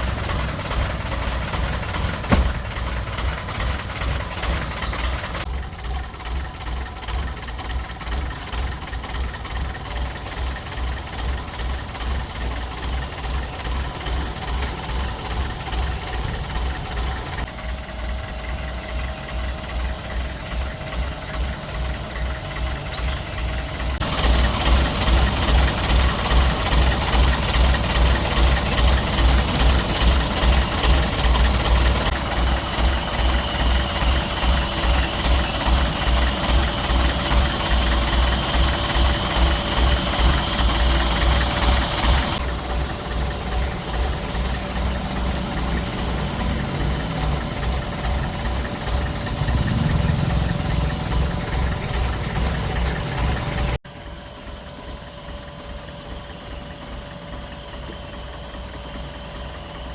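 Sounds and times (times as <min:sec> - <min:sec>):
engine thumping rhythmically: 0:00.0 - 0:59.9.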